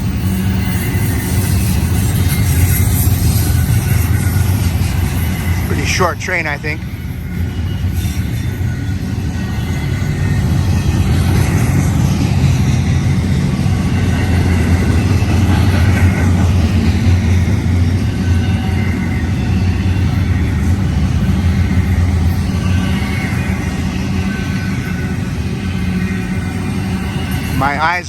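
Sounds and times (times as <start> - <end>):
freight train wheels rumbling on rails: 0.0 - 28.0.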